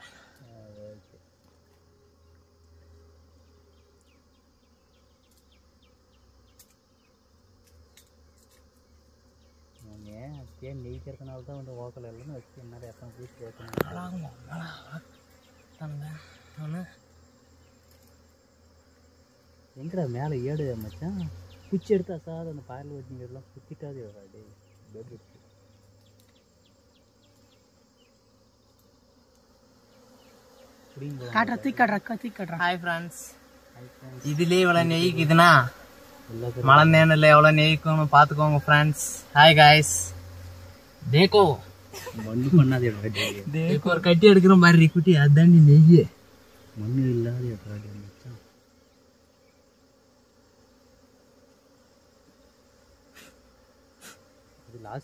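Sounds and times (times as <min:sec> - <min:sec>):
bee buzzing: 0:00.0 - 0:55.0.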